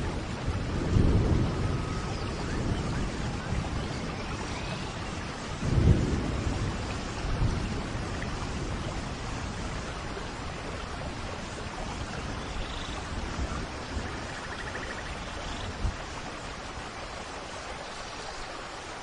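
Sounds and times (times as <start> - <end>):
thunder rumble: 0.0 - 17.0
steady rain: 0.0 - 19.0.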